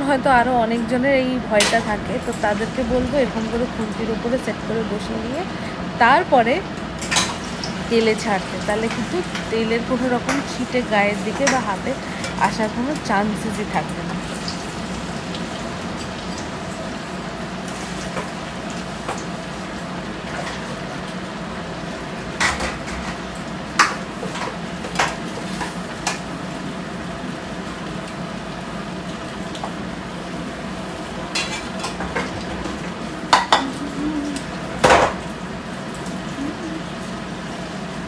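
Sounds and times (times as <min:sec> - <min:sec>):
oil sizzling deep-frying: 0:00.0 - 0:38.0.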